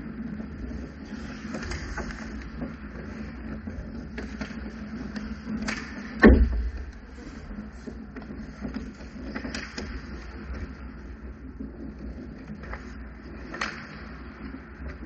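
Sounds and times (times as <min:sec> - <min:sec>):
skates scraping on ice: 0:00.0 - 0:15.0
sticks and puck clicking: 0:00.0 - 0:15.0.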